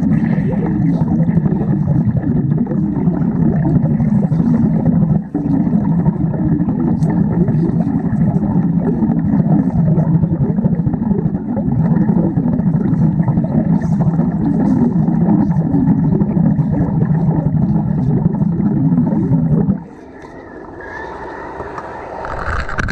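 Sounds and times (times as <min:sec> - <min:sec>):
underwater welding arc rumble: 0:00.0 - 0:20.1, 0:21.5 - 0:22.9.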